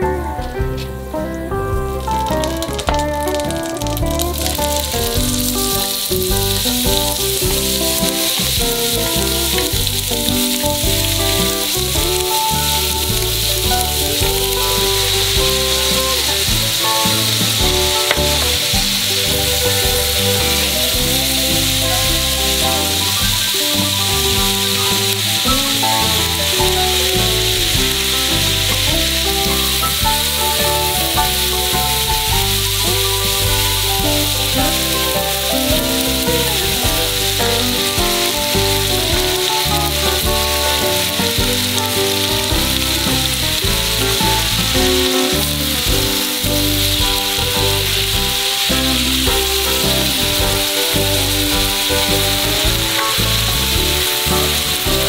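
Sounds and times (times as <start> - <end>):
meat and vegetables sizzling in skillet: 1.0 - 55.0.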